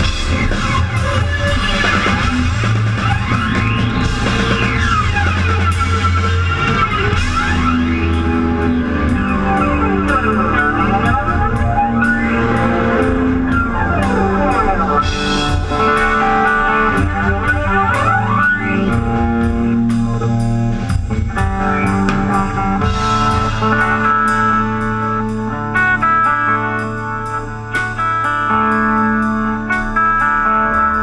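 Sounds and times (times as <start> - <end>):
steady drum beat: 0.0 - 29.4
live rock band playing: 0.0 - 31.0.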